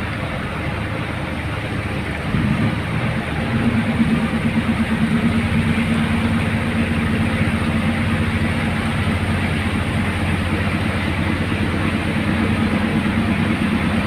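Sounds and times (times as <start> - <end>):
boat engine pulsing: 0.0 - 14.0.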